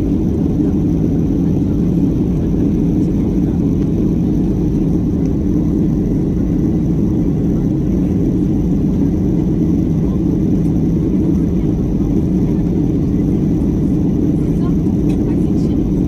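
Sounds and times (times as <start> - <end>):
jet engines at climb power: 0.0 - 16.0.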